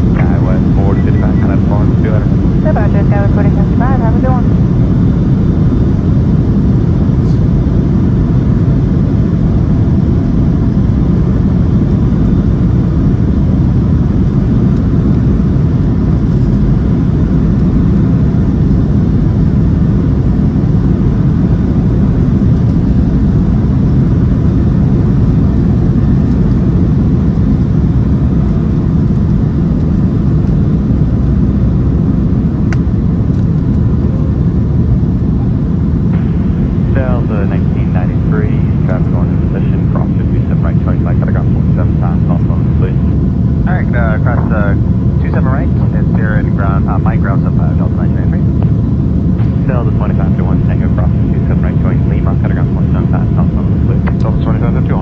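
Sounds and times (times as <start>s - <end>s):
jet engines rumbling at takeoff: 0.0s - 55.0s.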